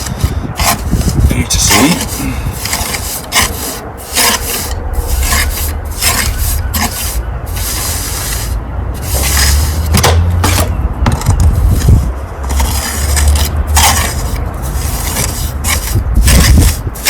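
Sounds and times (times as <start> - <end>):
trowel scraping mortar: 0.0 - 17.0.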